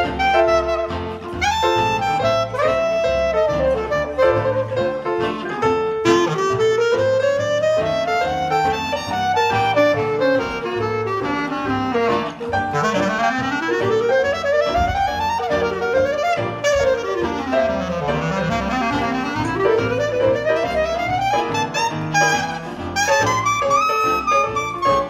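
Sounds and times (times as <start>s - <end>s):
clarinet jazz solo: 0.0s - 25.0s
double bass and band: 0.0s - 25.0s.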